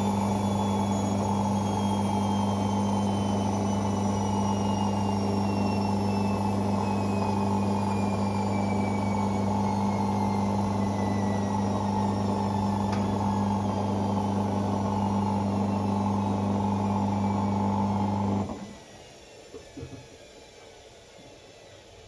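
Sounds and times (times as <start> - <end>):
washing machine drum winding down: 0.1 - 18.5.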